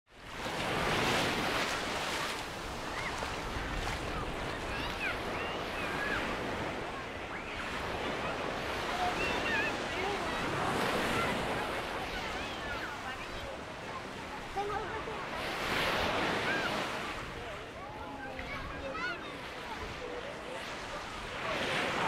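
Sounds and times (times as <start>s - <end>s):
small waves washing on sand: 0.1s - 22.0s
faint voices of people: 1.0s - 22.0s.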